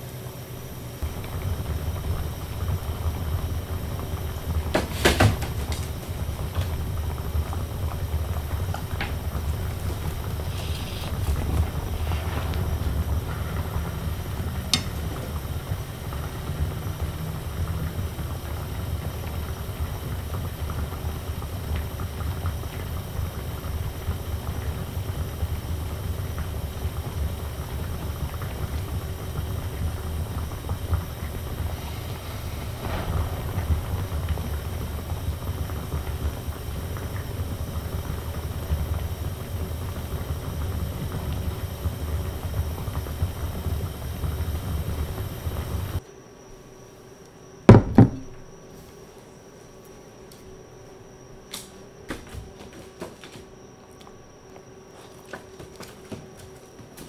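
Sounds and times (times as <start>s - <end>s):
pan simmering low rumble: 0.0s - 46.0s.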